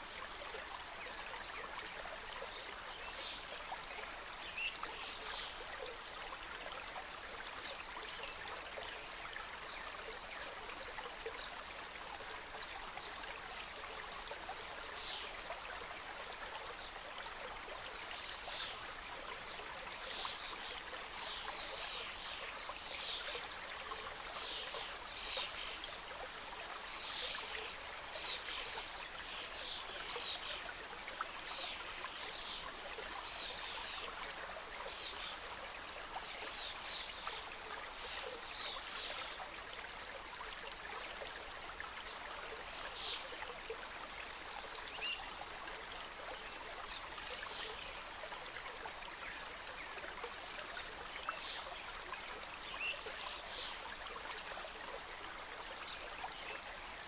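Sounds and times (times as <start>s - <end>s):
stream running over rocks: 0.0s - 57.0s
water splashes and trickles: 0.0s - 57.0s.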